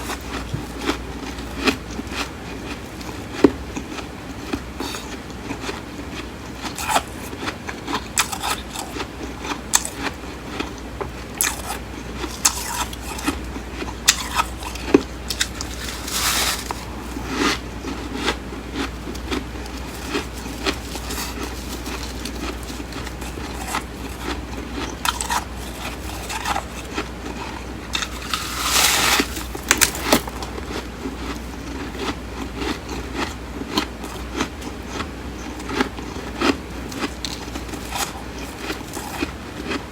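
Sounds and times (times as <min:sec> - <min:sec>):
frost being chewed and crunched: 0:00.0 - 0:39.9
steady low hum: 0:00.0 - 0:39.9.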